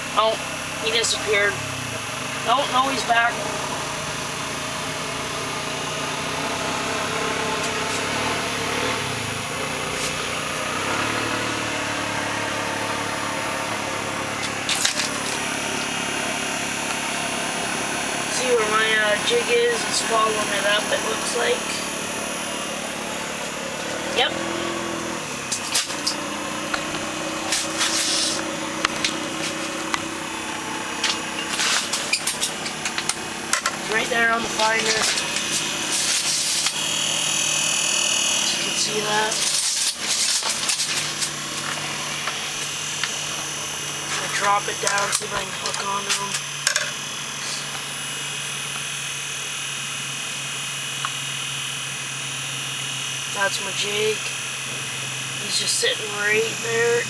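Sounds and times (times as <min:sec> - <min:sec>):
machine drone: 0:00.0 - 0:57.0
mechanical hum with hiss: 0:00.0 - 0:57.0.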